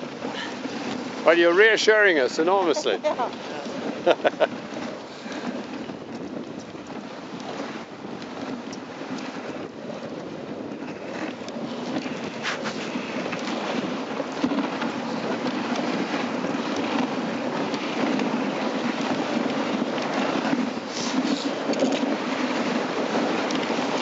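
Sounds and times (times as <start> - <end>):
sled runners hissing on snow: 0.0 - 5.8, 9.3 - 24.0
wind on microphone: 0.0 - 24.0.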